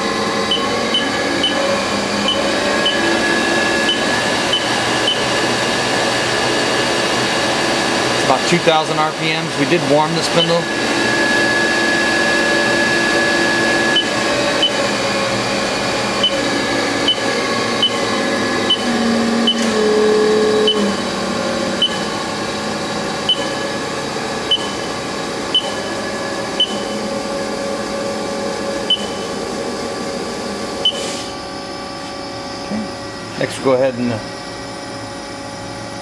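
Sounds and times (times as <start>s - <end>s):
lathe spindle whine: 0.0s - 36.0s.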